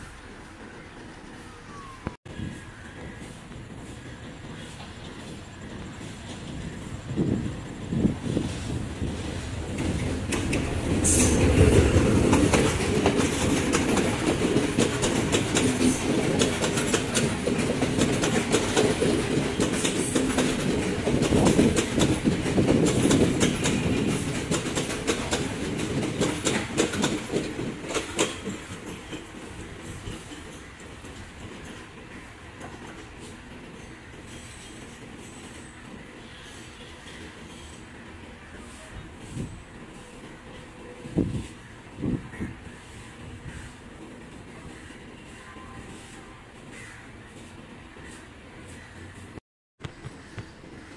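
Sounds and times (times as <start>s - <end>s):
train wheels clattering: 2.4s - 46.0s.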